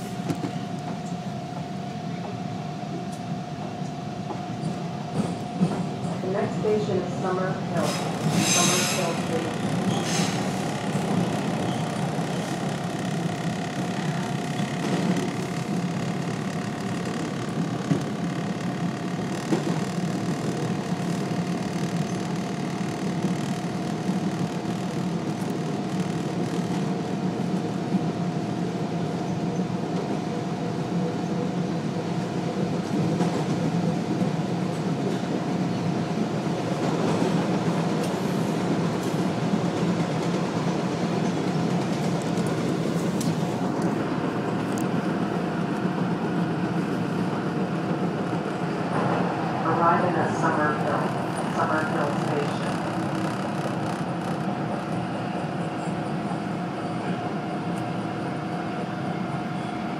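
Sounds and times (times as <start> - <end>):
subway train rumbling in tunnel: 0.0 - 59.9.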